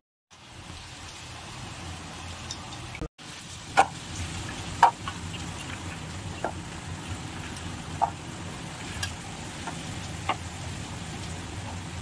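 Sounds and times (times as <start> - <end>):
low kitchen hum: 0.3 - 12.0.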